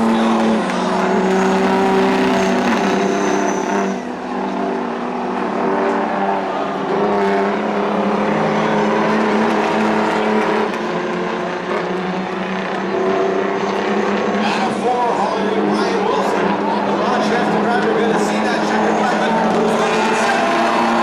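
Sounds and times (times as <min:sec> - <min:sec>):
diesel truck engines racing: 0:00.0 - 0:21.0.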